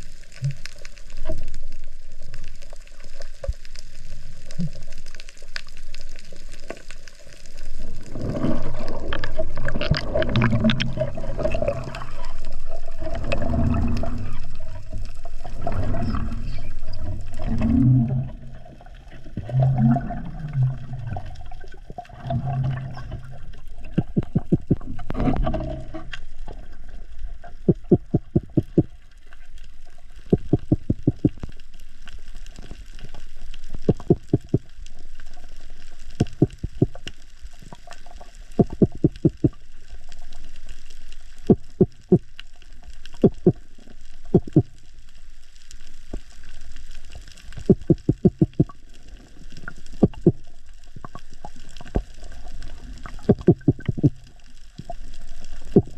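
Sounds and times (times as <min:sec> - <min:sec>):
underwater crackle: 0:00.0 - 0:55.9.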